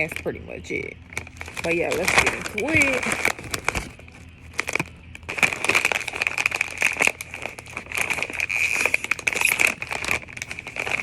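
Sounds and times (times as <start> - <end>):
foil chip bag crinkling: 0.0 - 11.0.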